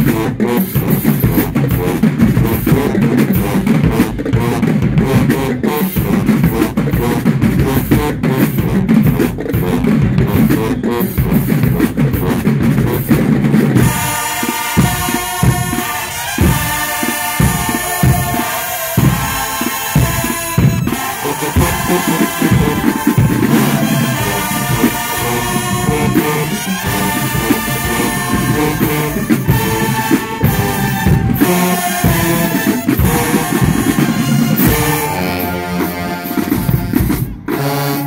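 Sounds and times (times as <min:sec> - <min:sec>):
drum beat: 0:00.0 - 0:37.7
marching band playing: 0:00.0 - 0:38.0.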